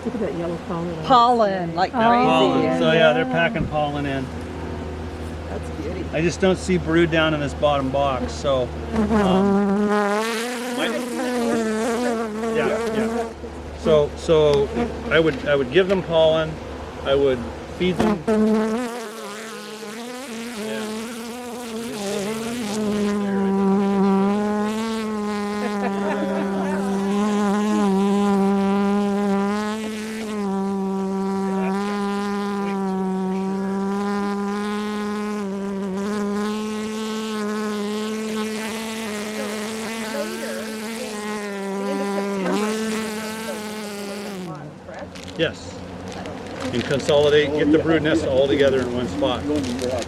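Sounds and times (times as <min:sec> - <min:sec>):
honeybee buzzing: 0:00.0 - 0:50.0.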